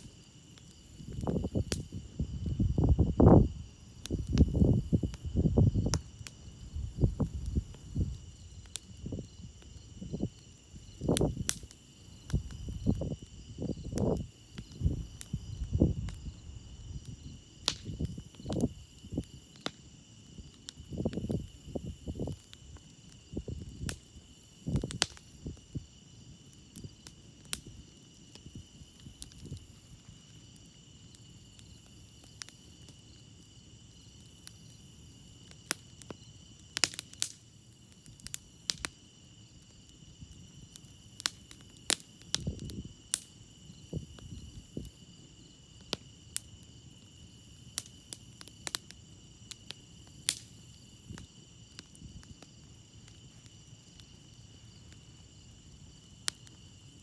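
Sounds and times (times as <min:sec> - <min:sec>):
crickets chirping: 0:00.0 - 0:57.0
wood fire crackling: 0:00.0 - 0:57.0.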